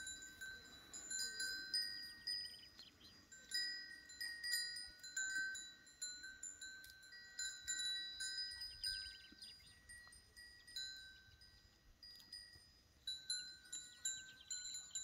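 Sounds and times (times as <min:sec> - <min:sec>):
small metal chimes ringing: 0:00.0 - 0:15.0.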